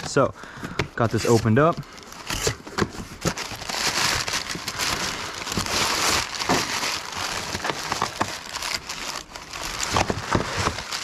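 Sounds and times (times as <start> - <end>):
packing paper crinkling: 1.0 - 11.0.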